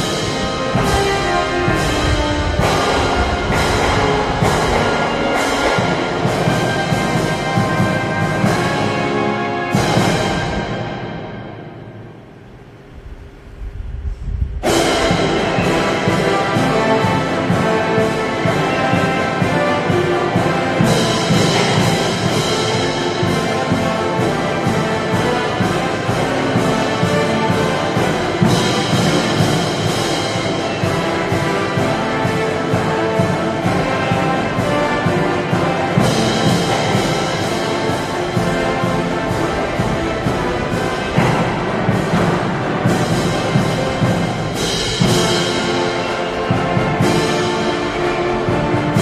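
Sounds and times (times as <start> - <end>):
military band brass and drums: 0.0 - 13.4, 14.6 - 49.0.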